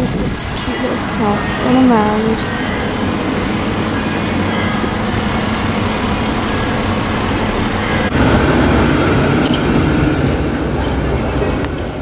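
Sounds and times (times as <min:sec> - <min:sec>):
loud street background: 0:00.0 - 0:12.0
traffic rumble: 0:00.0 - 0:12.0.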